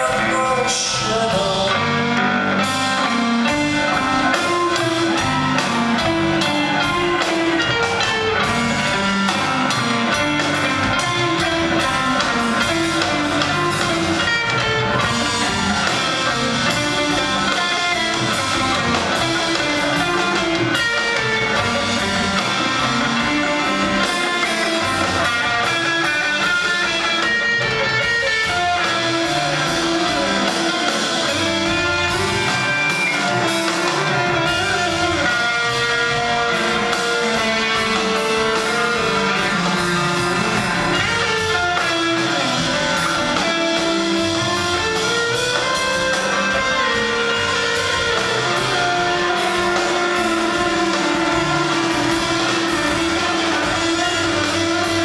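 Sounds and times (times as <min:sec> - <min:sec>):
drum kit beat: 0:00.0 - 0:55.0
electric guitars: 0:00.0 - 0:55.0
rock band playing: 0:00.0 - 0:55.0.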